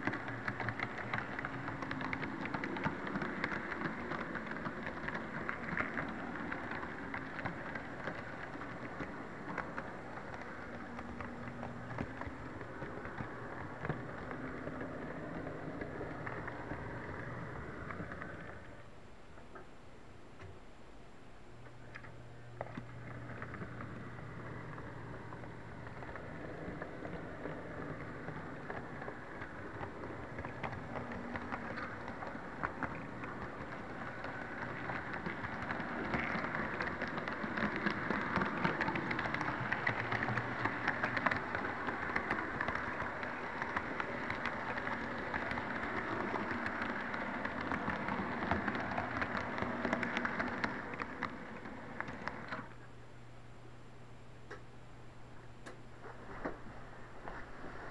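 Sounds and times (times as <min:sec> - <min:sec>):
model train wheels clattering: 0:00.0 - 0:18.8, 0:22.0 - 0:52.8.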